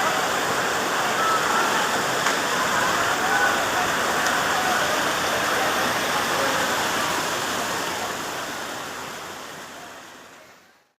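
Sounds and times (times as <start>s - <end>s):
water rushing: 0.0s - 10.9s.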